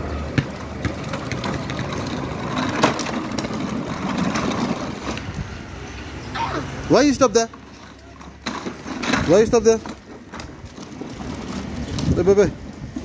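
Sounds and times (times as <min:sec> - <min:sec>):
plastic wheels rolling on stone: 0:00.0 - 0:05.8, 0:06.9 - 0:13.0.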